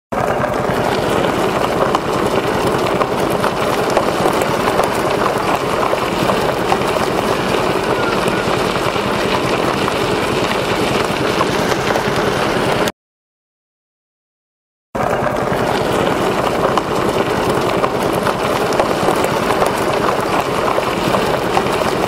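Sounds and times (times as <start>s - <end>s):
wheel rolling over gravel: 0.2s - 12.9s, 15.0s - 22.0s.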